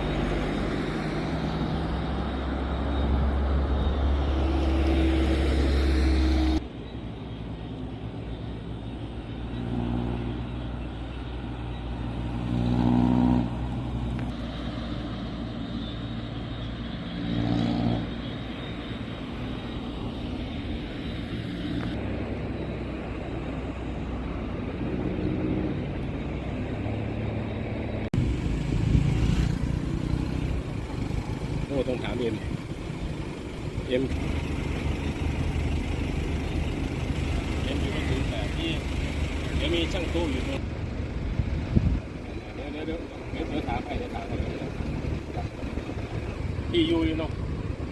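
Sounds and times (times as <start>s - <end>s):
vehicle engines revving: 0.0s - 47.9s.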